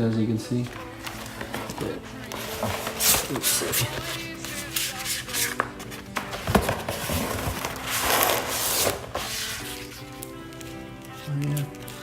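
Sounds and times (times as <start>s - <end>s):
background music with held notes: 0.0s - 12.0s
rustling of vinyl sheets: 0.0s - 12.0s.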